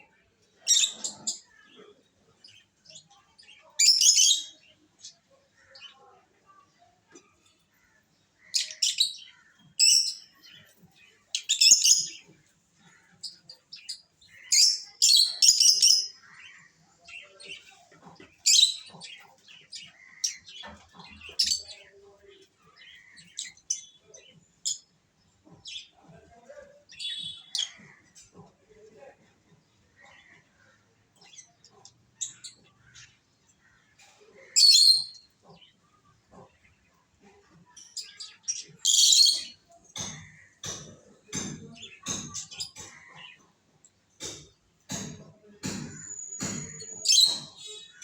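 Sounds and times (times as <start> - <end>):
lovebirds chirping: 0.0 - 48.0.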